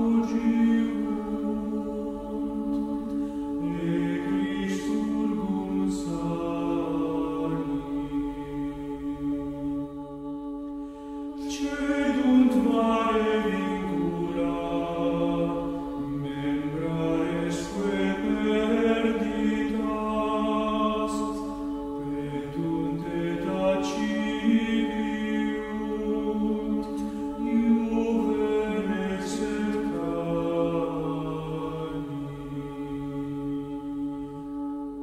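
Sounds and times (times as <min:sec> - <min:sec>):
congregation singing a hymn: 0:00.0 - 0:35.0.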